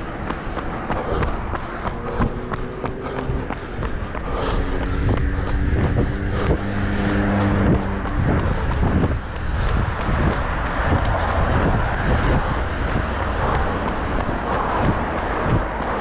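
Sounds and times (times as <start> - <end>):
engine hum: 0.0 - 16.0
road traffic: 0.0 - 16.0
wind on microphone: 3.0 - 16.0.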